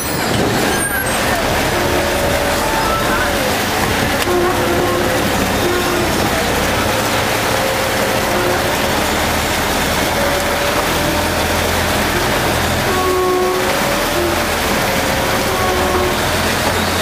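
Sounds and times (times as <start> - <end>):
boat engine humming: 0.0 - 17.0
constant rushing noise: 0.0 - 17.0.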